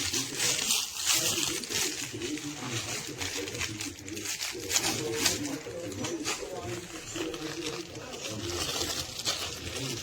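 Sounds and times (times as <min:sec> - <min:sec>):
plush toy rustling and crinkling: 0:00.0 - 0:10.0.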